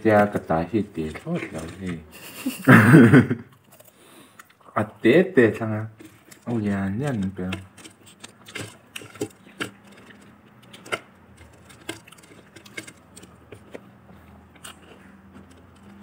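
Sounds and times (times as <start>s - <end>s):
crisp chewing crunches: 0.0s - 2.2s, 3.5s - 4.8s, 5.4s - 16.0s.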